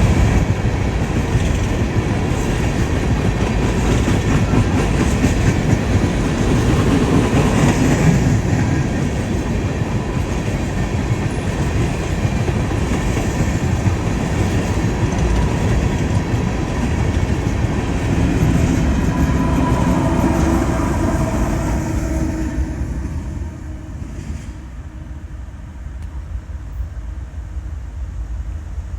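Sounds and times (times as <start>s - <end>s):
train wheels clacking: 0.0s - 24.7s
freight train rumble: 0.0s - 28.9s.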